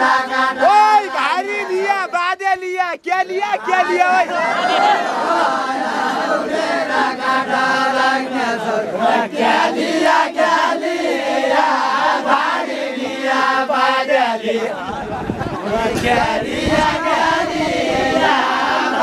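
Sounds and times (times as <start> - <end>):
men singing in unison: 0.0 - 2.1, 3.6 - 19.0.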